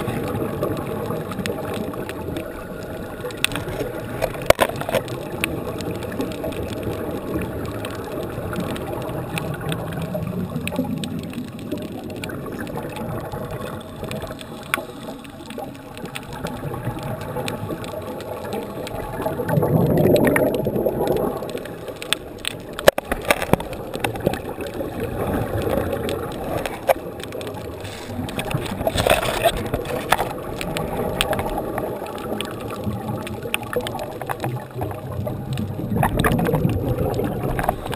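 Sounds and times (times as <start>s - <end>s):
underwater air bubbling: 0.0s - 37.9s.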